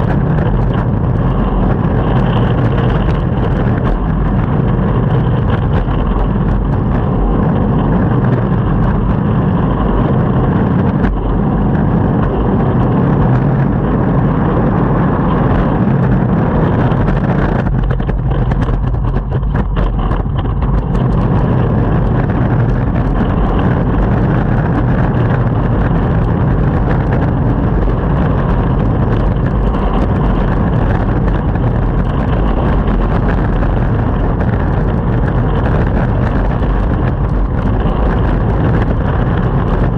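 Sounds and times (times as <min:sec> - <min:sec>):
skateboard wheels rumbling on pavement: 0:00.0 - 0:39.9
wind on microphone: 0:00.0 - 0:39.9.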